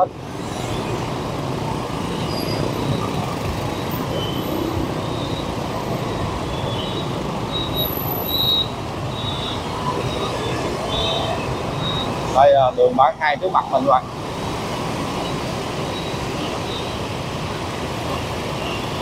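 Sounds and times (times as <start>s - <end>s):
motorbike traffic engine noise: 0.0s - 19.0s.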